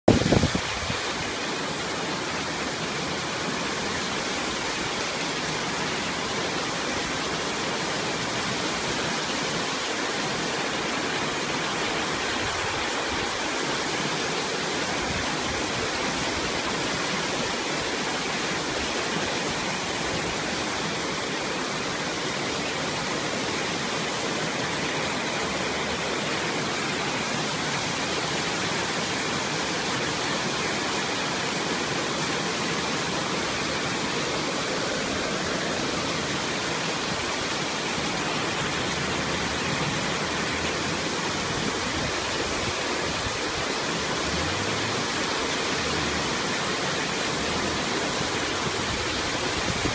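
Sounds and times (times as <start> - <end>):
heavy rain pouring: 0.1 - 49.9.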